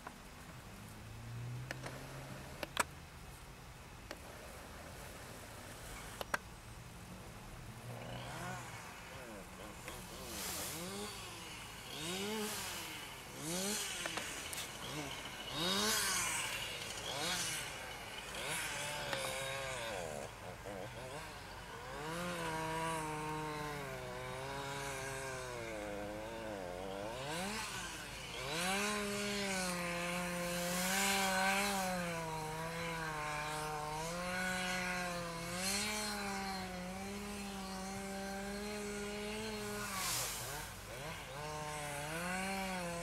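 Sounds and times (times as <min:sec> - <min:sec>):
chainsaw cutting ice: 0:07.4 - 0:43.0.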